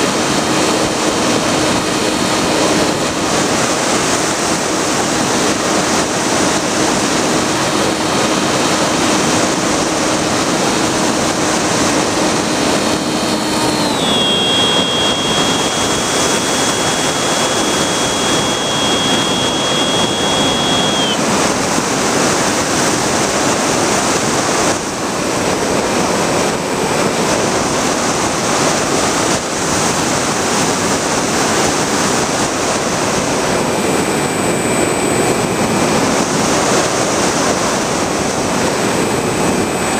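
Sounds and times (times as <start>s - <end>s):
electric motor whine: 0.0s - 27.8s, 28.7s - 39.9s.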